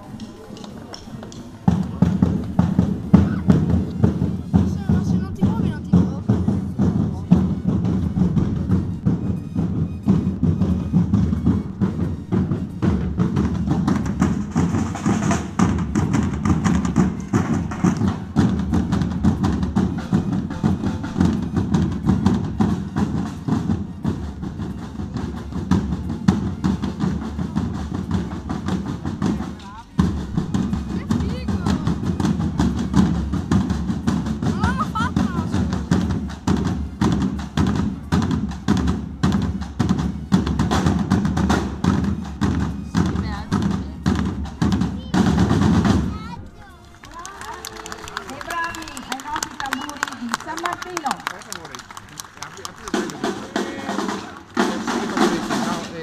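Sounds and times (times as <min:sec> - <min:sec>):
parade drums beating: 0:00.0 - 0:56.0.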